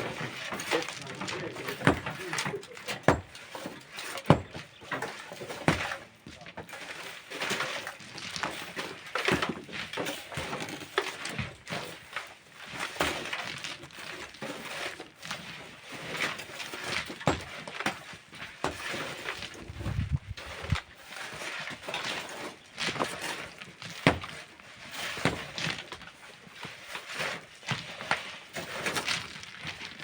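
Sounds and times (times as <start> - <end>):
hand tools scraping stone: 0.0 - 30.0.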